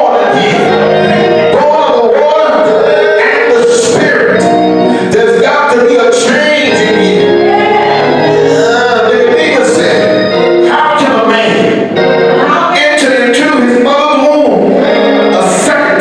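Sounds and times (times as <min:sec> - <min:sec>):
gospel singing voices: 0:00.0 - 0:16.0
instrumental backing music: 0:00.0 - 0:16.0.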